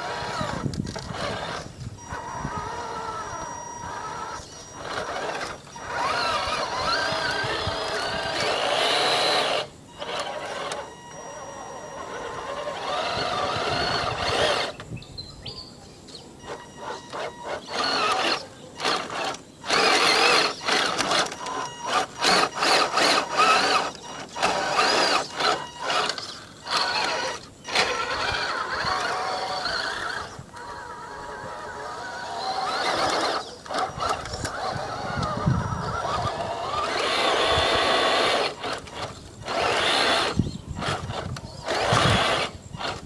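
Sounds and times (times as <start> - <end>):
electric motor and gearbox whining: 0.0 - 15.1, 16.4 - 43.0.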